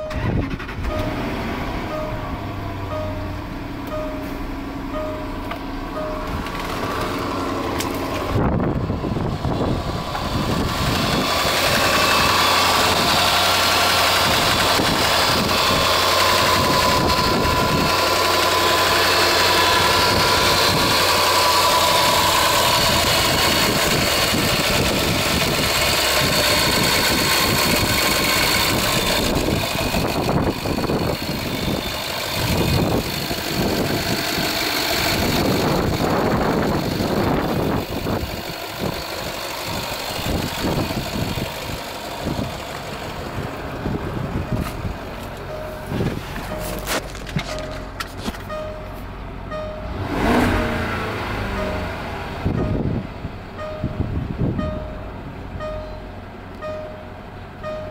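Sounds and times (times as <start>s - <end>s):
car engine starting and idling: 0.0s - 57.9s.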